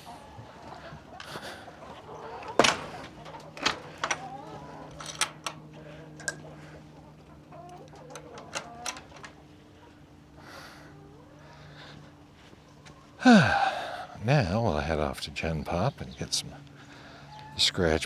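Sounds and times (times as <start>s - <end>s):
chickens clucking and squawking: 0.0s - 14.4s, 16.5s - 18.0s.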